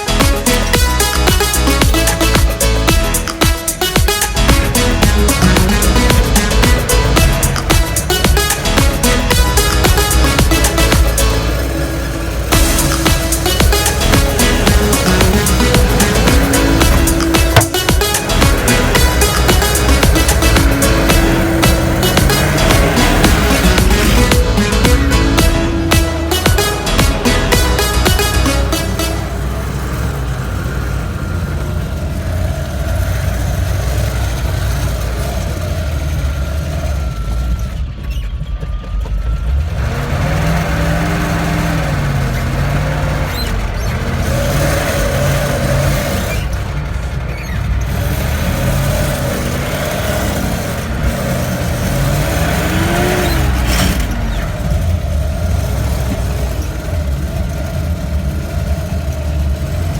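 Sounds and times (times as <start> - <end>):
truck engine rumbling and revving: 0.0 - 59.9.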